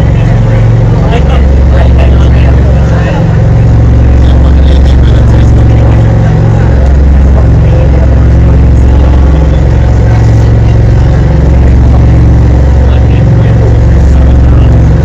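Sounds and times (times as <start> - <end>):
boat engine low drone: 0.0 - 15.0.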